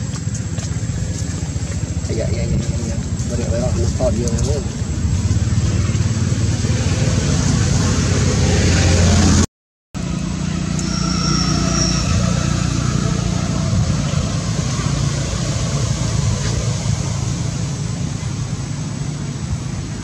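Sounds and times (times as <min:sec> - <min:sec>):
low motor rumble: 0:00.0 - 0:09.4, 0:10.0 - 0:20.0.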